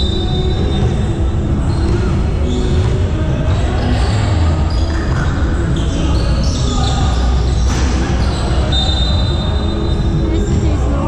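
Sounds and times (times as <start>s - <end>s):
players' voices: 0.0s - 11.0s.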